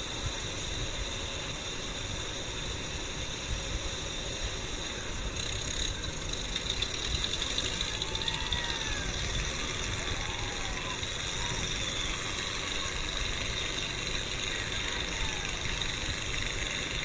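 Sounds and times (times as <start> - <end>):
steady hiss: 0.0 - 17.0
tractor engines running: 1.4 - 17.0.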